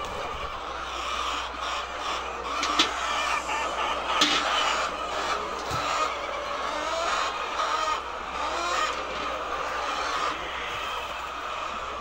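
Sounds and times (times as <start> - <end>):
hens calling: 0.0 - 12.0.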